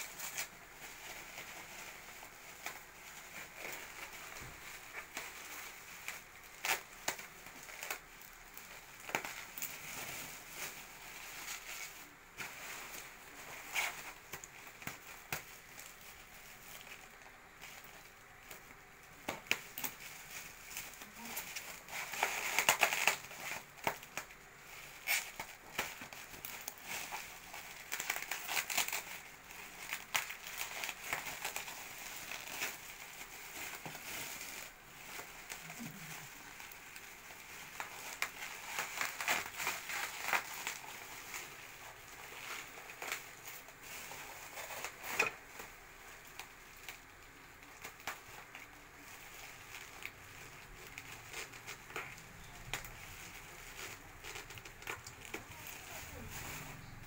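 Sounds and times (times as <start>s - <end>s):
bubble wrap crinkling: 0.0s - 57.0s.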